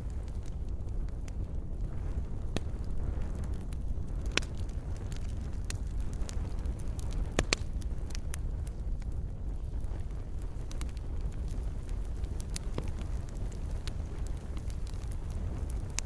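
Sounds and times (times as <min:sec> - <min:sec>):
campfire burning: 0:00.0 - 0:16.0.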